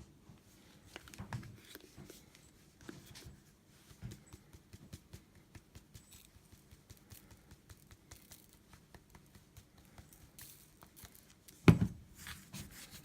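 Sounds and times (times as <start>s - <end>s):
hands rustling: 0.7s - 13.0s.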